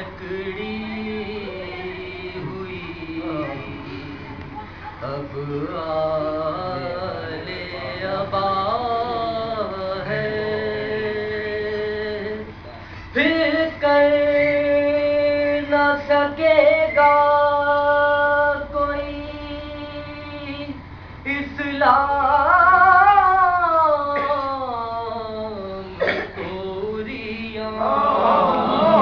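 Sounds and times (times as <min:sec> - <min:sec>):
man chanting: 0:00.0 - 0:04.3, 0:05.0 - 0:12.5, 0:13.2 - 0:29.0.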